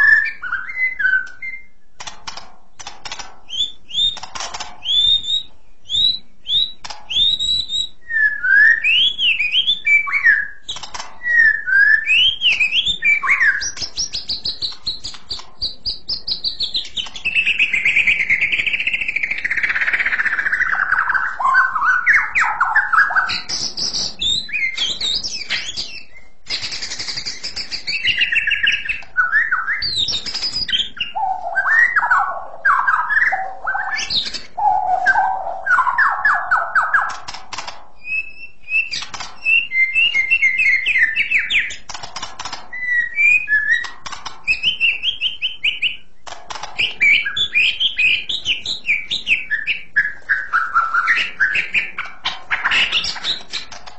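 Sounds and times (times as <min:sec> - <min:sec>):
bird singing whistled phrases: 0:00.0 - 0:01.8, 0:04.8 - 0:37.1, 0:38.0 - 0:41.7, 0:42.7 - 0:46.1, 0:46.8 - 0:52.0.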